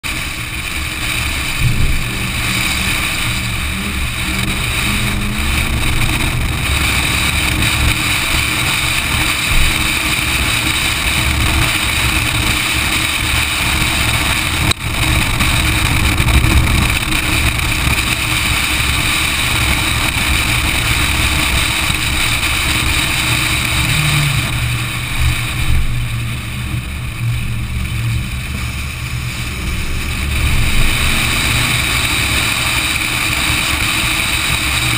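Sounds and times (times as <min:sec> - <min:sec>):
race car engine: 0:00.0 - 0:34.9
wind noise on microphone: 0:00.0 - 0:34.9.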